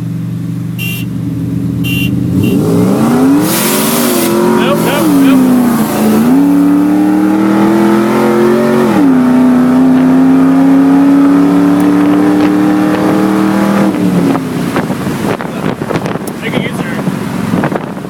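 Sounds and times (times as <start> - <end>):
race car engine at full throttle: 0.0 - 18.0
wind and road noise: 0.0 - 18.0.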